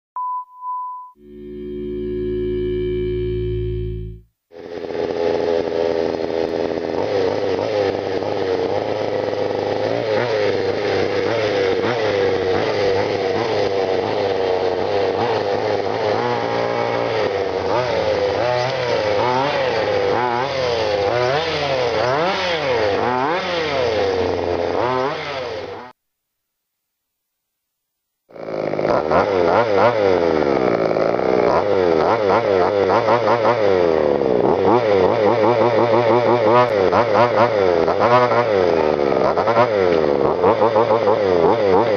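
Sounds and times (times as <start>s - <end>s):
small two-stroke engine revving: 1.2s - 26.0s, 28.3s - 41.9s.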